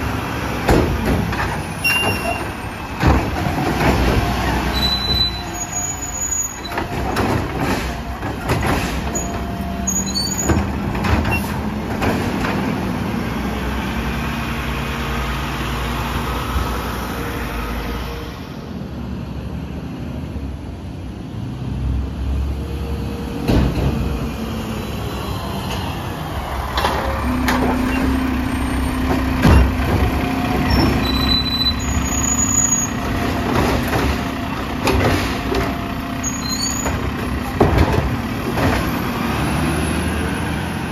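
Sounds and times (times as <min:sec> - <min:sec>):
garbage truck engine under load: 0:00.0 - 0:18.0, 0:23.0 - 0:40.9.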